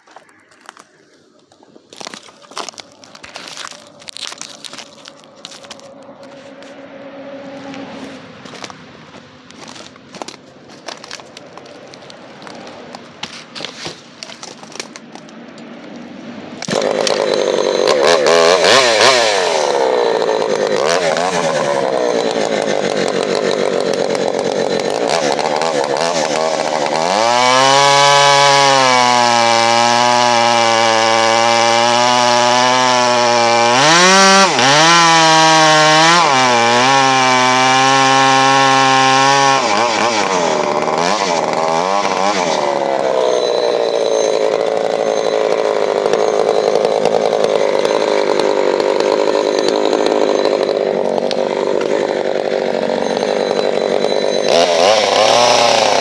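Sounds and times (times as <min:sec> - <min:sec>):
chainsaw idling and revving: 0:02.0 - 0:13.0, 0:15.9 - 0:56.0.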